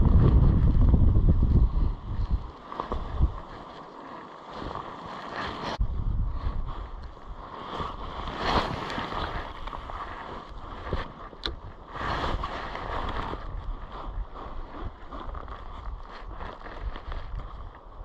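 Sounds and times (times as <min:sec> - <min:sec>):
wind buffeting microphone: 0:00.0 - 0:03.7, 0:05.6 - 0:18.0.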